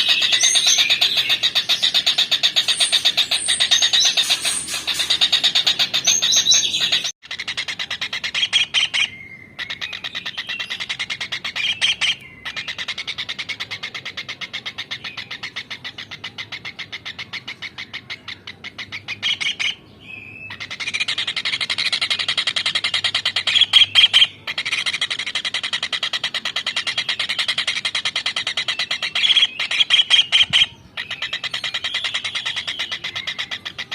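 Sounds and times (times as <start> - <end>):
kingfisher chattering call: 0.0 - 19.8, 20.5 - 33.9.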